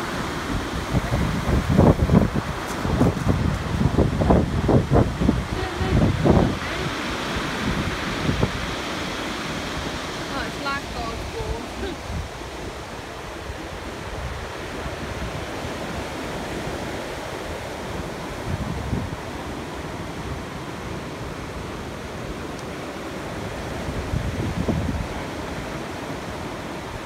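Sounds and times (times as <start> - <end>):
surf washing over pebbles: 0.0 - 27.0.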